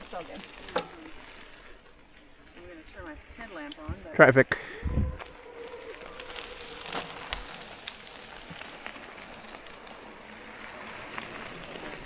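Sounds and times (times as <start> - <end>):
bicycle clicks and rattles: 0.0 - 3.9, 5.2 - 12.0
bicycle tyres on gravel: 0.0 - 12.0.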